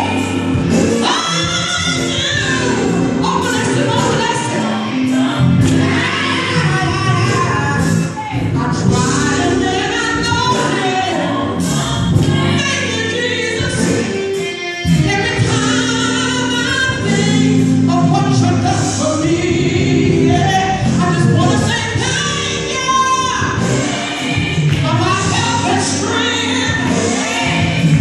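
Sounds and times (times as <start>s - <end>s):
woman singing gospel song: 0.0s - 28.0s.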